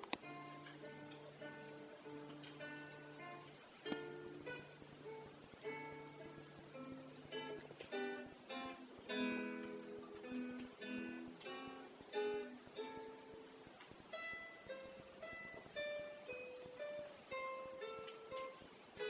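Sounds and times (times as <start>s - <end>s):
acoustic guitar melody: 0.0s - 19.0s.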